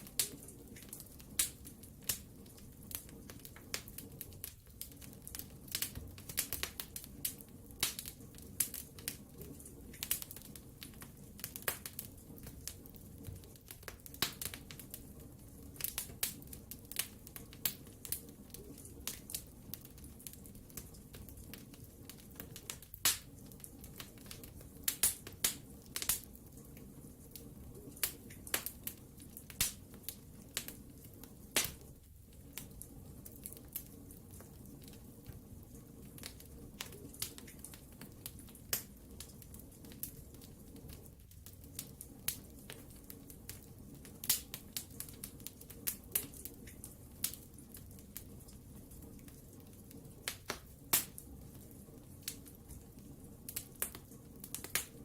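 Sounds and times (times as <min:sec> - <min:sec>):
low rush of flames: 0:00.0 - 0:55.0
wood fire crackling and popping: 0:00.0 - 0:55.0.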